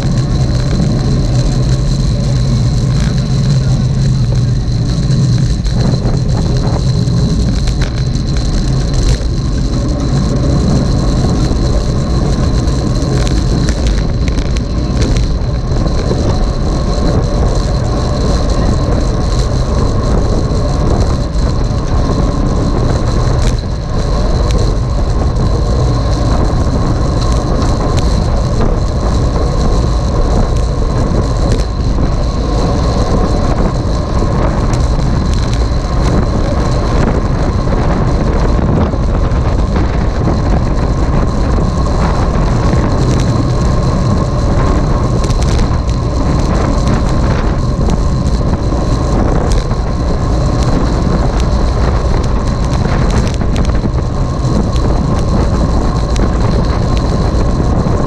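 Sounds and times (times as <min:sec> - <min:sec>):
faint high whine: 0:00.0 - 0:58.0
wind and road rumble: 0:00.0 - 0:58.0.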